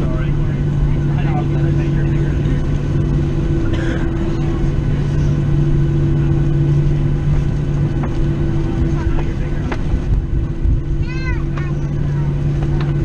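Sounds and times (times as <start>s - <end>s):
constant cabin rumble: 0.0s - 13.0s
jet engines idling: 0.0s - 13.0s.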